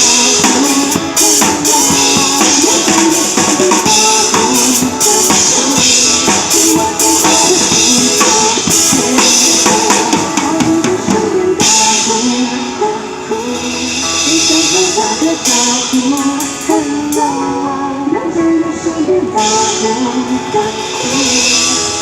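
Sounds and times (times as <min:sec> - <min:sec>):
drum kit beats and cymbals: 0:00.0 - 0:17.7, 0:19.3 - 0:22.0
backing track melody: 0:00.0 - 0:22.0.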